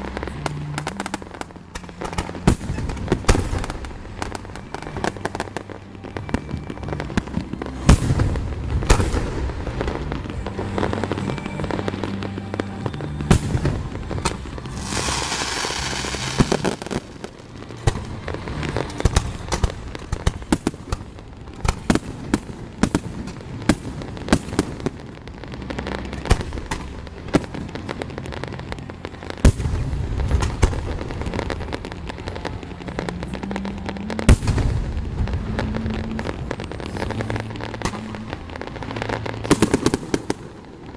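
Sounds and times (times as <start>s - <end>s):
fireworks bangs: 0.0s - 40.9s
fireworks crackling hiss: 0.0s - 40.9s.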